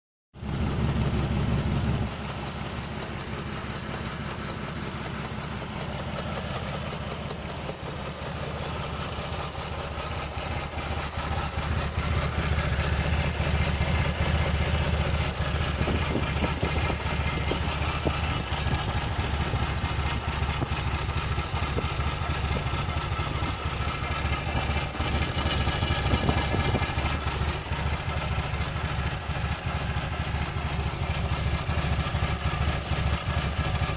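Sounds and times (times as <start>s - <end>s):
car engine idling roughly: 0.4s - 33.9s.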